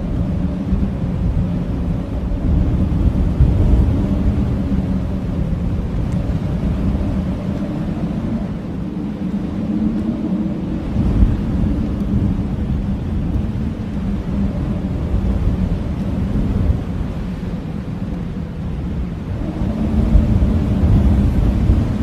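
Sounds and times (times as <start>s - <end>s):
gusty blizzard wind: 0.0s - 22.0s
low howling wind: 0.0s - 22.0s.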